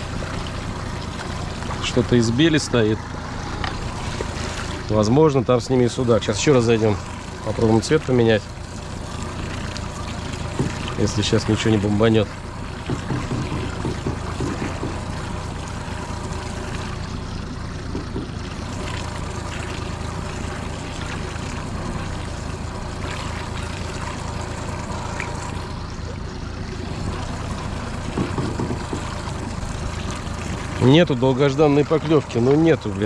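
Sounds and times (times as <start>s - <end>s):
outboard motor running: 0.0s - 33.0s
water splashing along hull: 0.0s - 33.0s.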